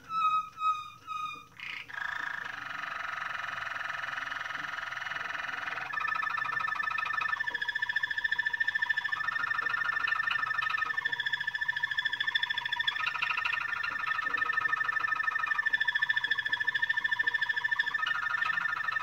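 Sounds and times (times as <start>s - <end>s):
canary singing: 0.0s - 19.0s.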